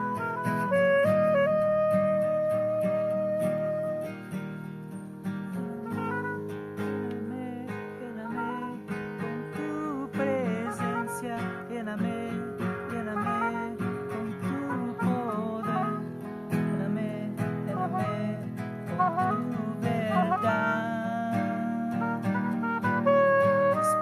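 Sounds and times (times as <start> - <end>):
oboe melody: 0.0 - 24.0
plucked guitar chords: 0.0 - 24.0.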